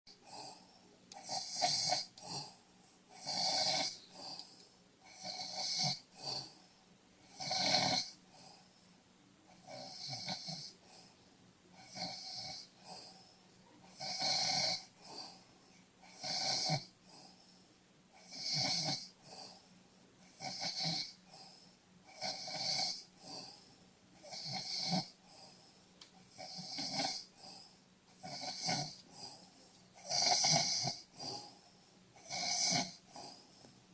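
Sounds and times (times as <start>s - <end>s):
snoring: 0.1s - 6.6s, 7.2s - 8.7s, 9.5s - 11.1s, 11.8s - 15.4s, 16.0s - 17.4s, 18.2s - 19.6s, 20.2s - 23.6s, 24.2s - 25.6s, 26.3s - 33.7s.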